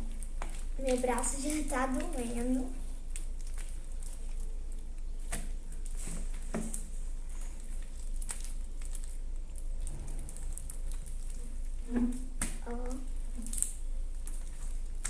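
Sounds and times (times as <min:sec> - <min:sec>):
slime squelching while kneaded: 0:00.0 - 0:15.0.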